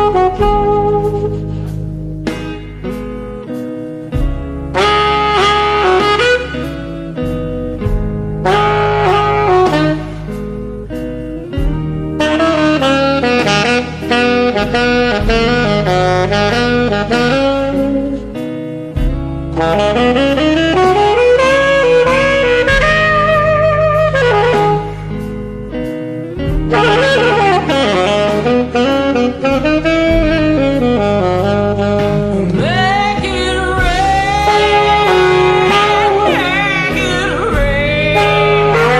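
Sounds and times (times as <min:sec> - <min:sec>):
band accompaniment with bass: 0:00.0 - 0:38.9
saxophone blues solo: 0:00.0 - 0:38.9.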